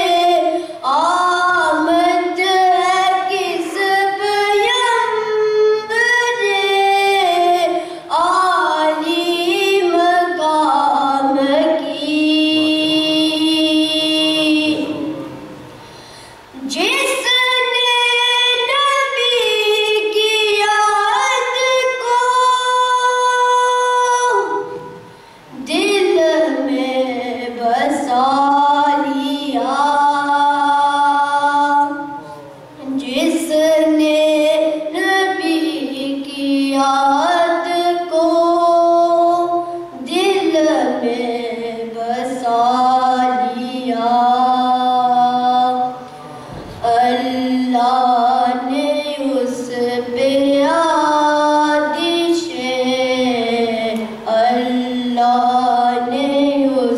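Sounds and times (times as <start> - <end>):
boy chanting into a microphone: 0.0 - 56.9.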